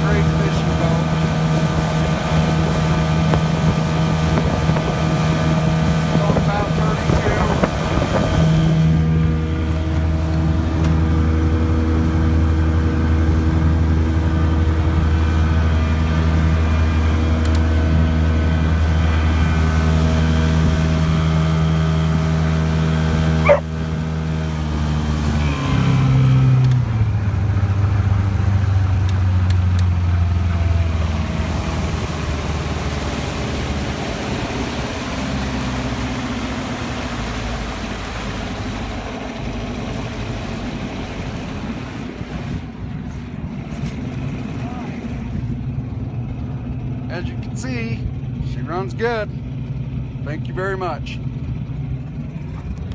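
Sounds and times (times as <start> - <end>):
wind and water rushing: 0.0 - 49.8
outboard motor running: 0.0 - 52.9.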